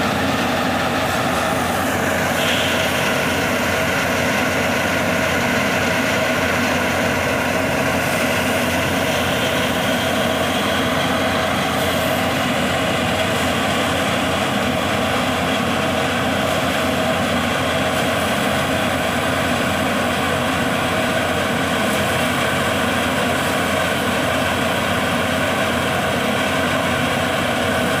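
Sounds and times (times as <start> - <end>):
tractor and thresher droning: 0.0 - 28.0.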